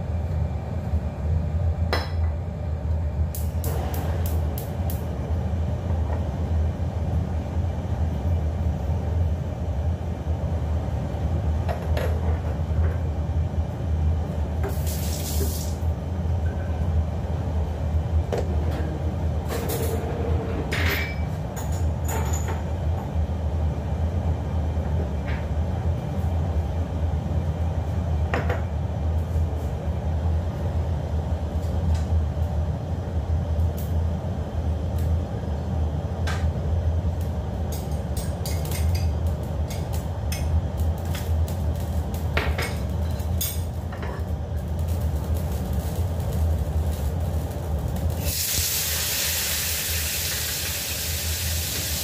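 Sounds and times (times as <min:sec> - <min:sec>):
gas stove flame rumbling: 0:00.0 - 0:52.0.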